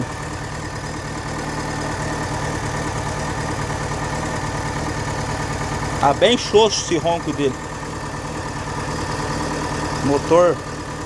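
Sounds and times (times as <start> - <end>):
rough car engine idling: 0.0 - 11.0.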